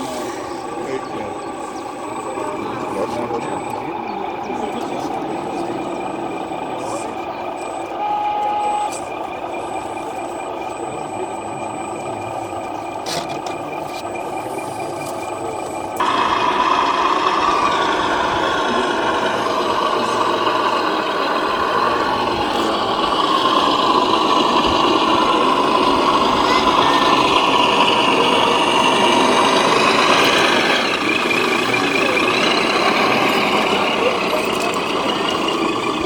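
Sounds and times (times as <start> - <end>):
small electric motors whining: 0.0 - 36.0.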